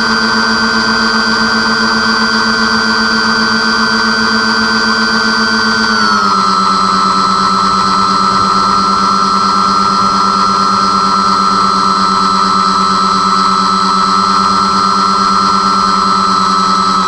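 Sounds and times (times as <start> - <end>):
model airplane motors whining: 0.0 - 17.0.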